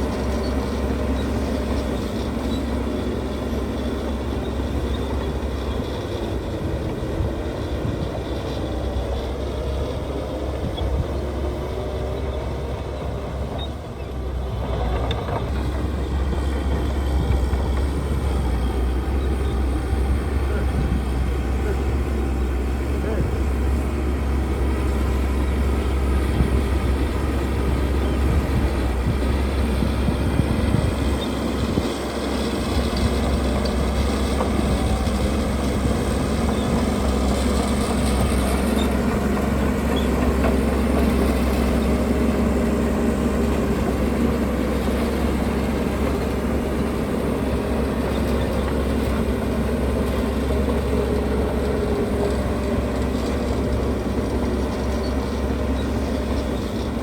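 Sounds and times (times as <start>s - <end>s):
heavy diesel machinery rumbling: 0.0s - 57.0s.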